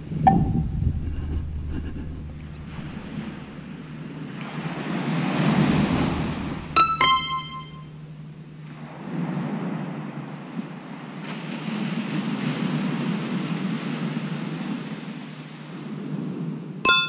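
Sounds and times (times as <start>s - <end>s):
surf washing on beach: 1.0s - 16.8s.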